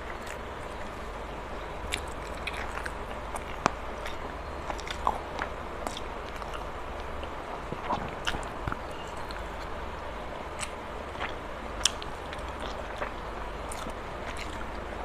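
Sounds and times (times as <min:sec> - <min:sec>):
person chewing rice: 0:00.0 - 0:09.9, 0:10.5 - 0:15.0
steady low hum: 0:00.0 - 0:15.0.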